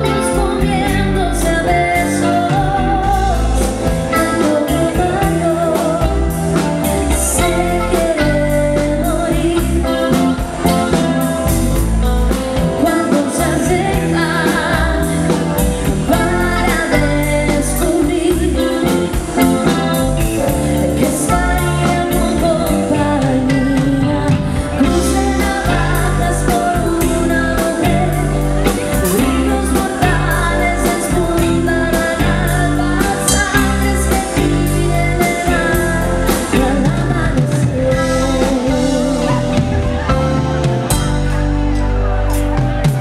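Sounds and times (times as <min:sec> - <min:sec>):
pop-rock band playing: 0:00.0 - 0:43.0
steady drum beat: 0:00.0 - 0:43.0
woman singing lead: 0:00.0 - 0:43.0.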